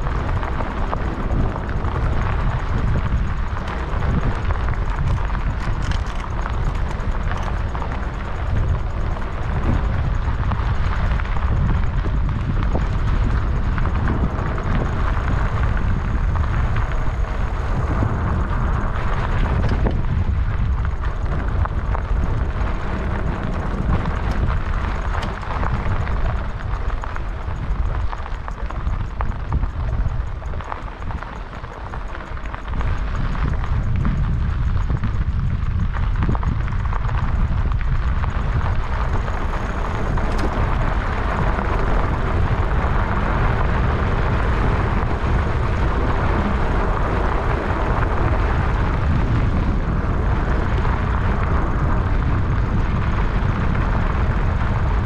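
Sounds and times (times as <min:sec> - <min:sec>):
bike tyres rolling on dirt: 0:00.0 - 0:55.0
wind rumbling on microphone: 0:00.0 - 0:55.0.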